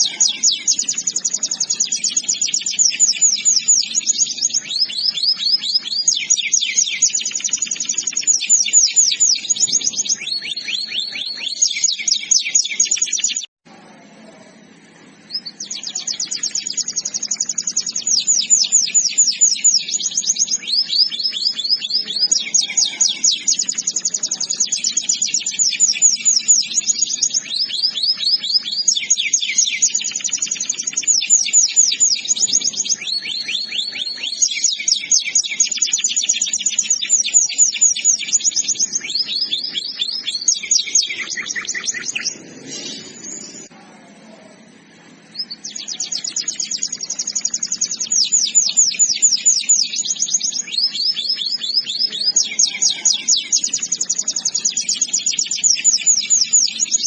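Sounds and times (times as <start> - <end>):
canary singing high trills: 0.0 - 13.6, 15.1 - 43.8, 44.5 - 57.0.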